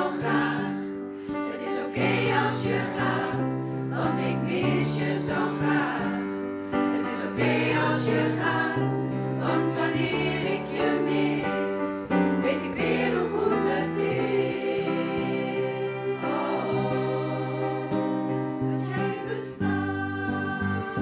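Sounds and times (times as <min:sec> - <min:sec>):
women's choir singing in harmony: 0:00.0 - 0:21.0.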